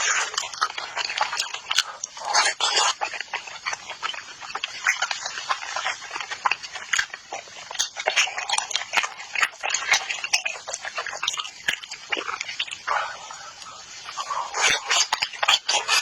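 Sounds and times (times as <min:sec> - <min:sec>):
wet chewing and lip smacking: 0:00.0 - 0:16.0.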